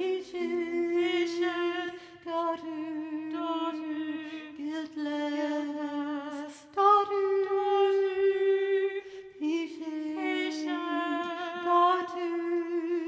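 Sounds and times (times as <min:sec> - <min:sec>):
vocal quartet singing a cappella: 0:00.0 - 0:13.0.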